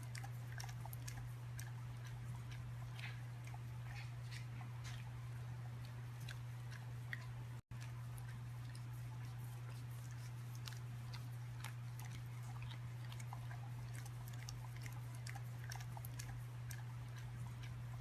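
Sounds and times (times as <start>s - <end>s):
noisy chewing: 0.0s - 18.0s.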